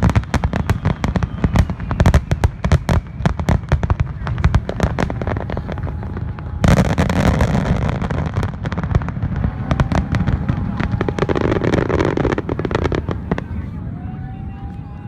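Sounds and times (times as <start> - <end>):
fireworks booms rumbling: 0.0 - 13.8
fireworks crackling and popping: 0.0 - 13.8
loud fireworks burst: 0.0 - 13.8.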